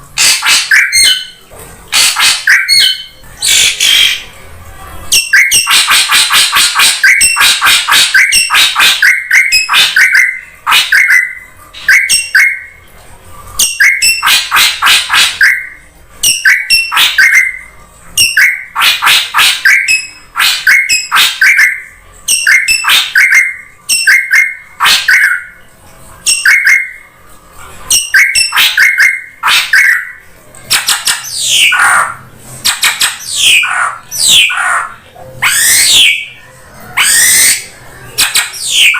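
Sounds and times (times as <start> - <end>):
bird chattering and ringing calls: 0.2 - 4.3, 5.1 - 12.8, 13.6 - 25.6, 26.2 - 27.1, 27.9 - 36.4, 37.0 - 38.9.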